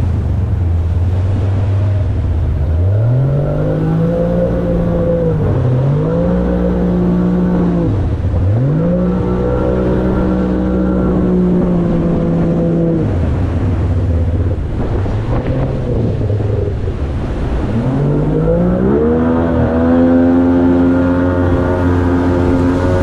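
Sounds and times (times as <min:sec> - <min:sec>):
outboard motor revving: 0:00.0 - 0:23.0.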